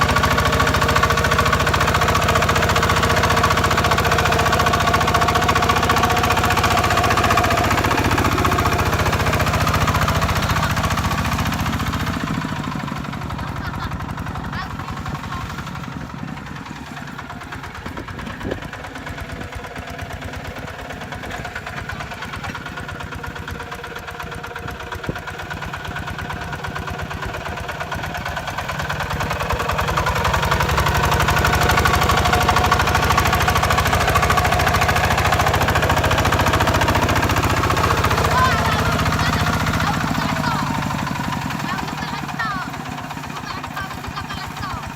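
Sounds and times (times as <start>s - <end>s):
tractor diesel engine chugging: 0.0s - 44.9s.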